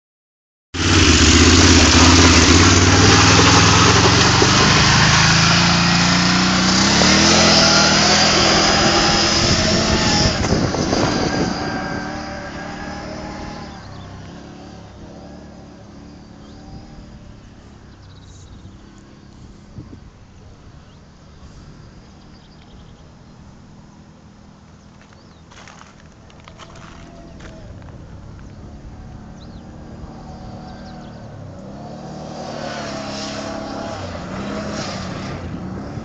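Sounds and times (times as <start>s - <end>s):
atv engine revving: 0.8s - 19.9s, 24.5s - 36.0s.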